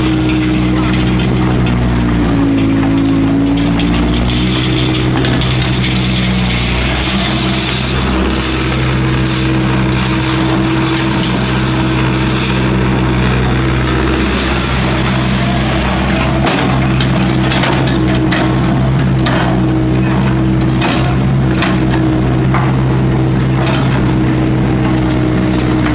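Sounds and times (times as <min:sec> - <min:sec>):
asphalt chunks clattering in bucket: 0:00.0 - 0:25.9
excavator diesel engine running: 0:00.0 - 0:25.9.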